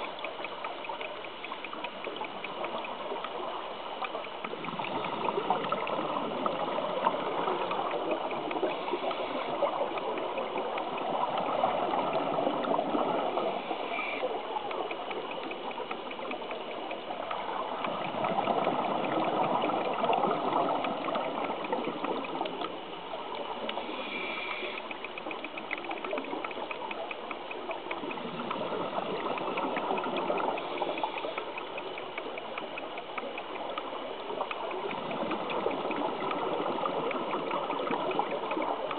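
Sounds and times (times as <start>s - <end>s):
fine regular ticking: 0.0s - 38.9s
underwater bubbling: 0.0s - 38.9s.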